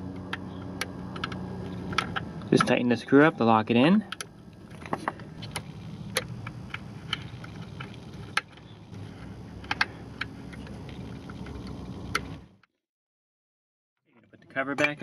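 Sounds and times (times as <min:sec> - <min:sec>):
low steady hum: 0:00.0 - 0:12.6.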